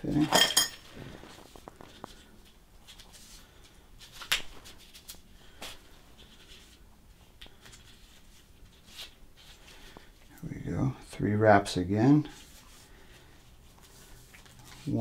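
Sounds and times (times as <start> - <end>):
soft rustling of tape: 0.9 - 15.0.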